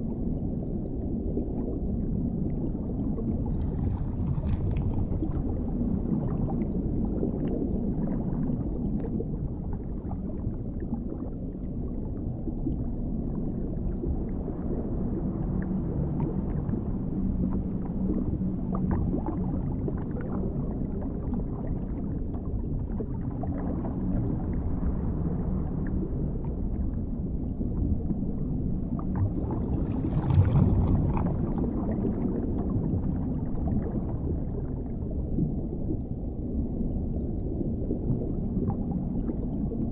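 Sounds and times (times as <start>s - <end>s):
deep underwater rumble: 0.0s - 39.9s.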